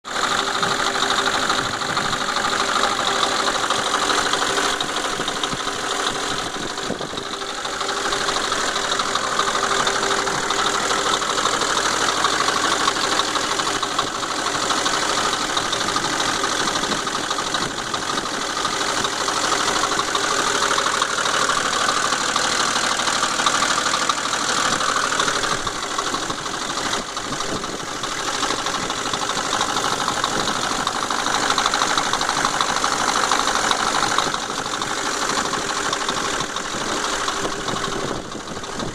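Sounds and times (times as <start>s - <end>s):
engine running with rattle: 0.0s - 38.9s.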